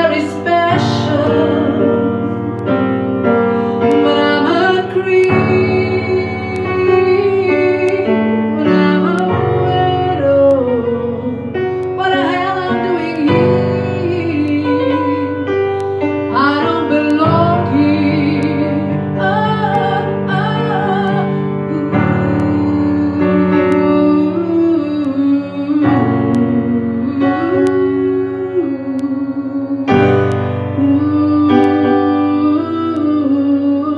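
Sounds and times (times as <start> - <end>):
woman singing with vibrato: 0.0 - 2.7, 3.6 - 33.9
piano chords: 0.0 - 33.9.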